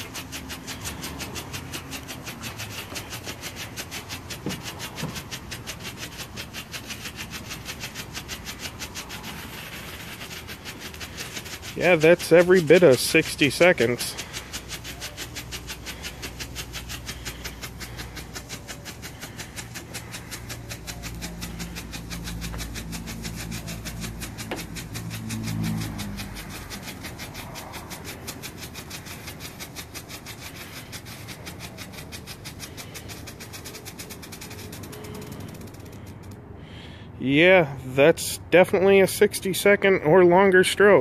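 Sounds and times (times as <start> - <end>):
firework strobe crackling: 0.0 - 36.4.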